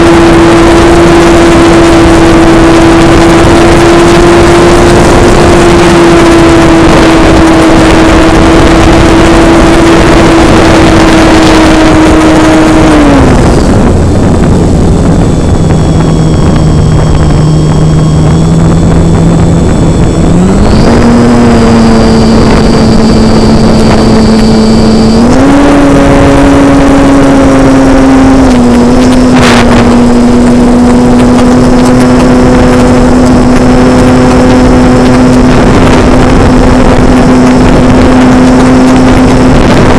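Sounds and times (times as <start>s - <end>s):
model airplane motor buzzing: 0.0s - 39.9s.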